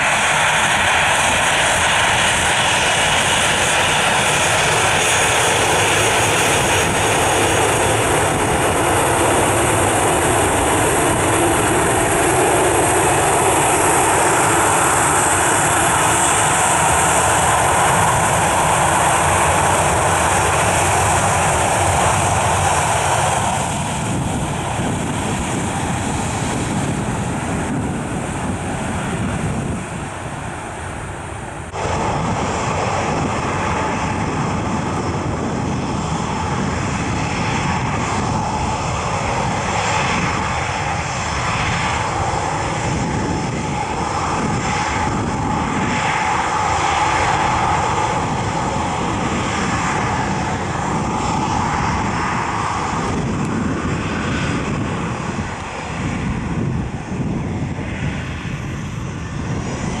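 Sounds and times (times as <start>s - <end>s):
jet engines at takeoff: 0.0s - 60.0s.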